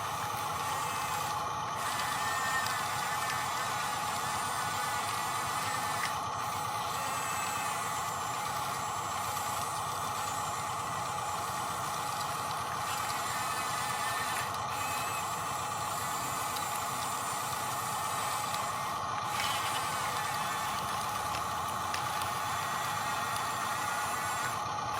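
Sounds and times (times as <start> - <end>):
small electric motors whining: 0.0 - 24.9.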